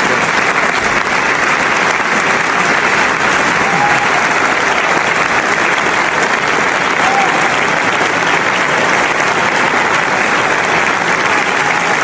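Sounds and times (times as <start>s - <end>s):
crowd clapping and cheering: 0.0s - 12.0s.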